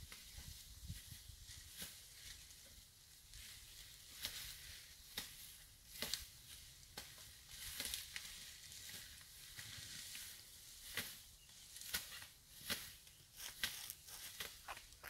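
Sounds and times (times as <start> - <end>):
dry grass and twigs crackling: 0.0 - 15.0.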